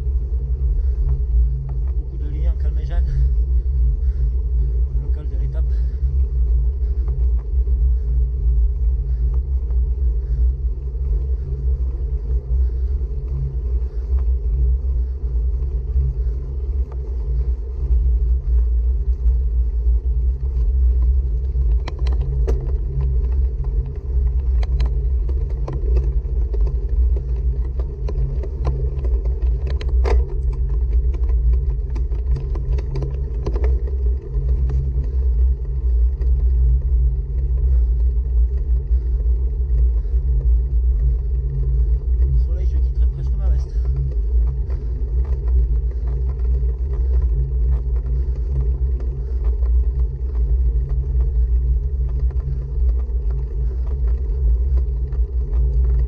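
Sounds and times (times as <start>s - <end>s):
bicycle tyres rumbling on tarmac: 0.0s - 56.0s
wind: 0.0s - 56.0s.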